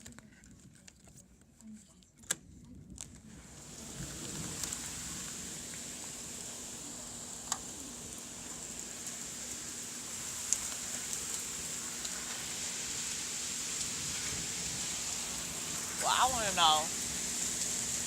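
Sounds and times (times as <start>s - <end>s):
rain falling: 3.3s - 18.0s.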